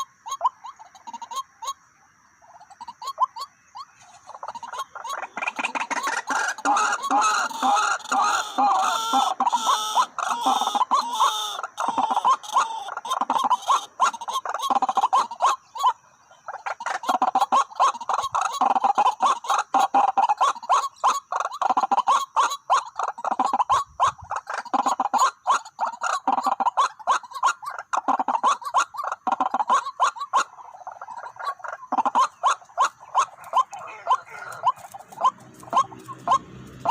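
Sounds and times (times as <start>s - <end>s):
waterhens calling harshly: 0.0s - 1.8s, 2.4s - 36.9s.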